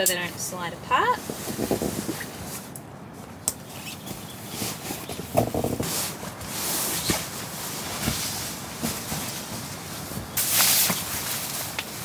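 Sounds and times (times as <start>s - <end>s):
frame rustling: 1.3s - 12.0s.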